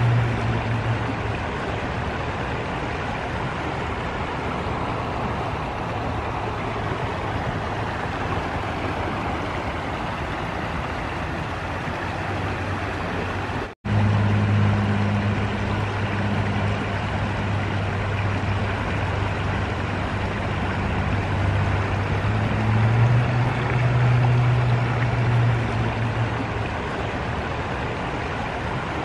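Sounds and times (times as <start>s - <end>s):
low motor hum: 0.0s - 29.0s
river rapids rushing: 0.0s - 29.0s.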